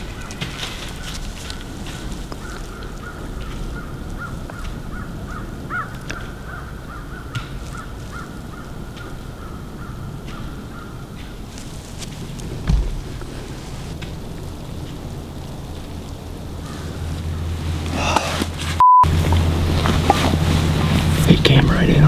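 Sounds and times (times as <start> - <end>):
low rush of wind: 0.0 - 22.0.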